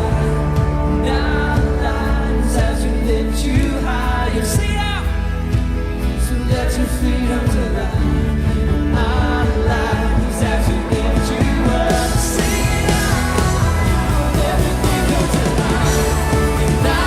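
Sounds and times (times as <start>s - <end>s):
bass: 0.0s - 17.0s
drums: 0.0s - 17.0s
person singing: 0.0s - 17.0s.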